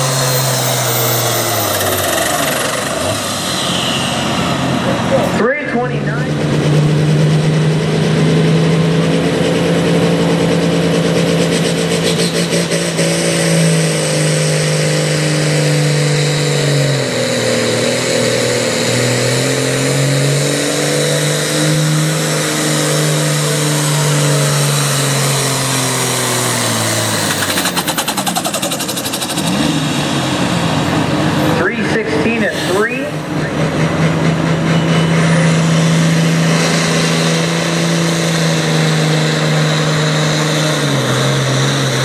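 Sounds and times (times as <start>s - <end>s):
diesel tractor engine at full power: 0.0s - 42.0s.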